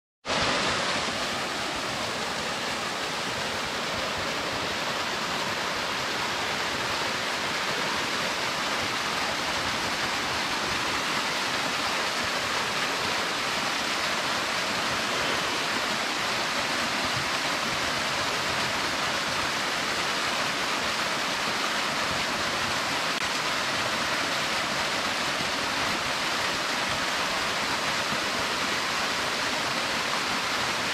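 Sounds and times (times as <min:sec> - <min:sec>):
waterfall splashing onto rocks: 0:00.3 - 0:30.9.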